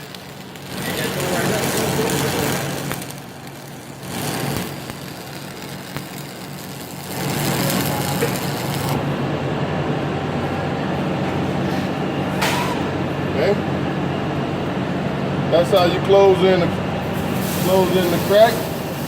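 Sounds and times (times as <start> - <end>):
steady low hum: 0.0 - 19.0
welding arc crackling: 0.0 - 19.0.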